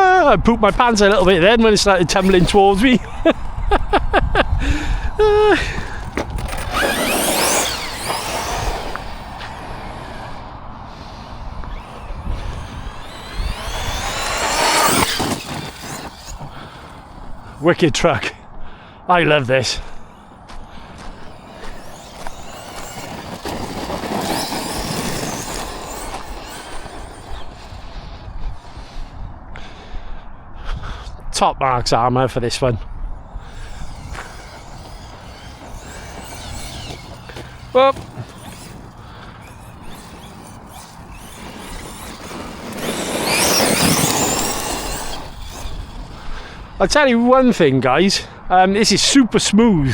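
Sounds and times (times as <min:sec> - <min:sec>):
tyres on loose dirt: 0:00.6 - 0:29.9, 0:32.2 - 0:49.2
toy truck motor whining: 0:02.0 - 0:18.4, 0:19.6 - 0:29.7, 0:32.6 - 0:49.0.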